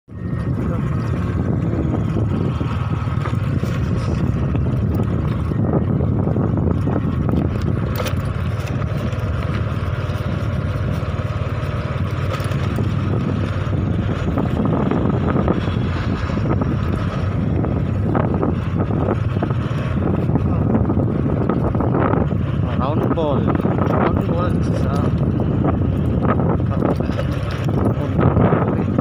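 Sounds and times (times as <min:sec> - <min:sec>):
motorcycle engine running: 0:00.1 - 0:29.0.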